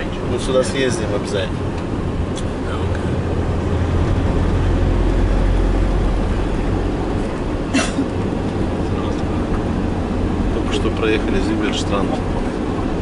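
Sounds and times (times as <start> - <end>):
minivan engine and road noise: 0.0 - 13.0.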